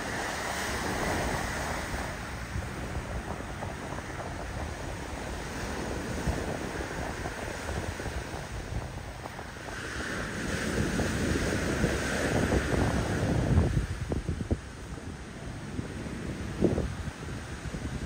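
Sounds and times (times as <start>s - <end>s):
waves washing against rocks: 0.0s - 18.0s
wind buffeting microphone: 0.0s - 18.0s.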